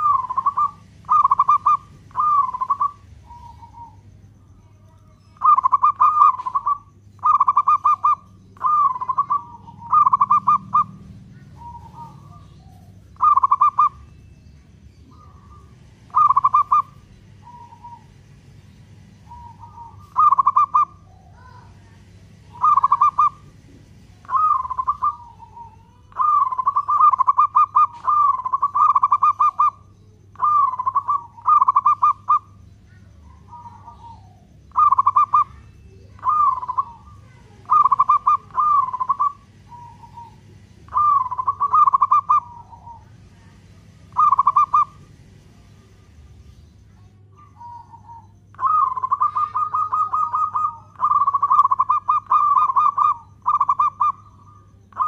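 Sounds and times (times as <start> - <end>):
dove cooing in trilled pulses: 0.0 - 55.0.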